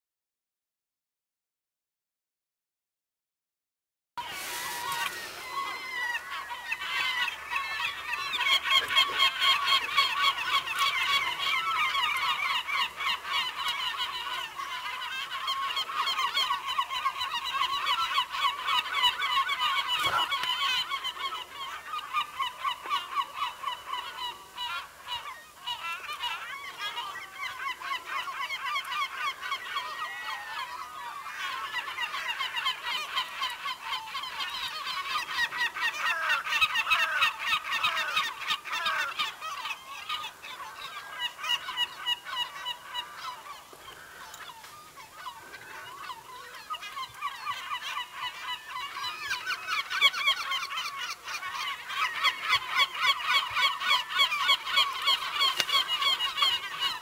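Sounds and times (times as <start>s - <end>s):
flock of birds calling: 4.2s - 57.0s.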